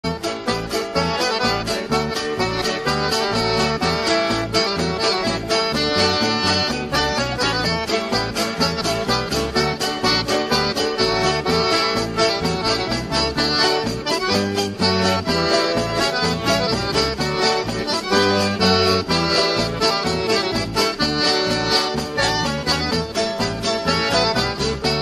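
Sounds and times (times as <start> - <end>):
accordion dance music: 0.0 - 25.0.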